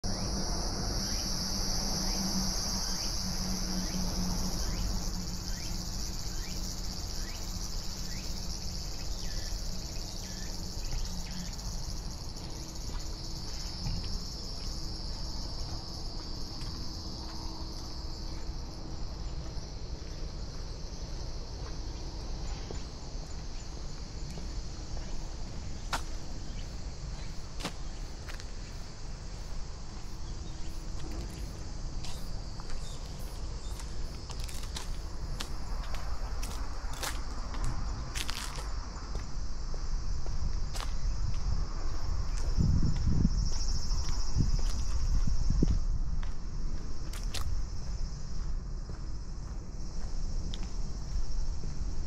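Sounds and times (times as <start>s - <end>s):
insects chorus: 0.0s - 52.0s.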